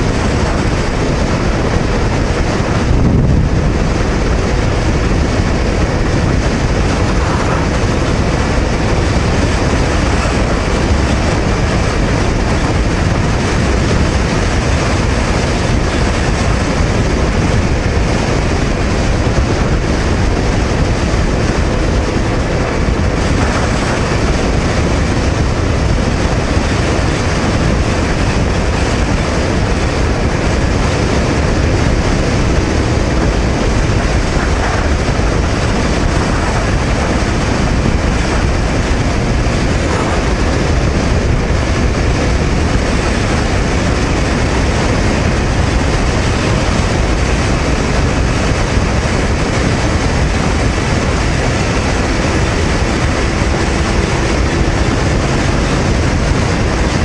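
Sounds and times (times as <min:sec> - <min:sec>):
motorcycle engine: 0:00.0 - 0:57.0
road noise: 0:00.0 - 0:57.0
wind rushing: 0:00.0 - 0:57.0.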